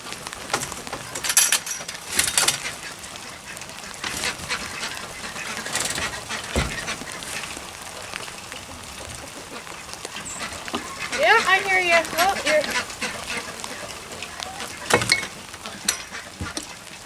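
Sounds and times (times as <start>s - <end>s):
ducks quacking: 0.8s - 17.0s.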